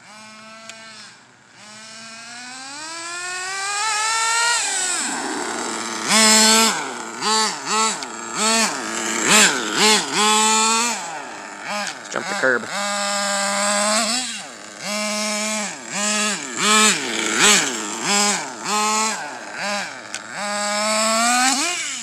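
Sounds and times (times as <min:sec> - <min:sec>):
model car engine revving: 0:00.0 - 0:22.0.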